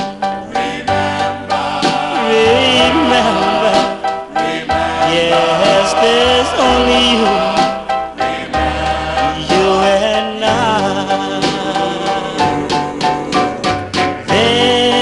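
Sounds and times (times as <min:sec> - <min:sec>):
doo-wop ballad record: 0:00.0 - 0:15.0.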